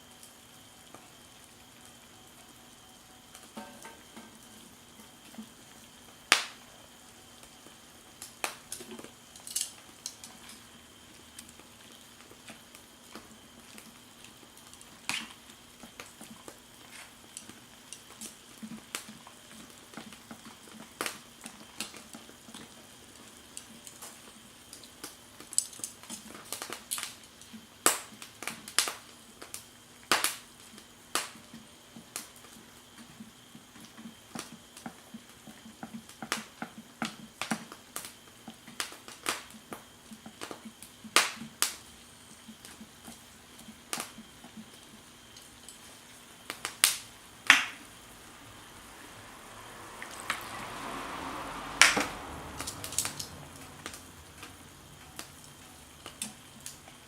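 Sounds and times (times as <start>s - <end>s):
hiss: 0.0s - 57.0s
wood crackling and popping in stove: 0.0s - 57.0s.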